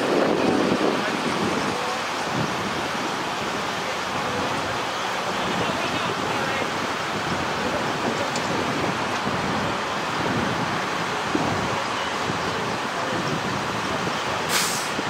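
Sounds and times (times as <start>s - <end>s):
idling emergency vehicles drone: 0.0s - 15.0s
road traffic: 0.0s - 15.0s
wind on microphone: 0.0s - 15.0s.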